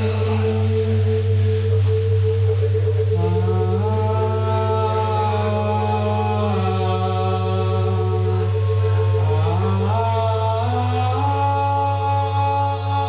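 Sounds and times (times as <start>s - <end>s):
low drone: 0.0s - 13.0s
wavering higher tone: 0.0s - 13.0s.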